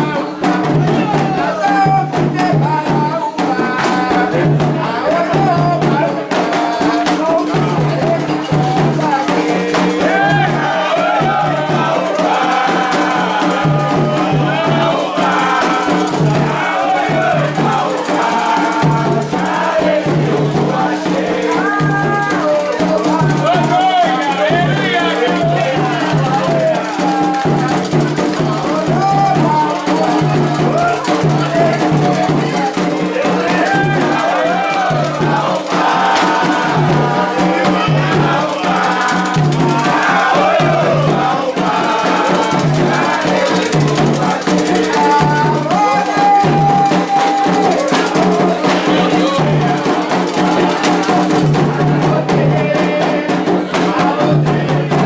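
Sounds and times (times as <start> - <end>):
drums: 0.0 - 55.0
group singing a chant: 0.0 - 55.0
percussion: 0.0 - 55.0
rattle shaking: 0.1 - 54.2.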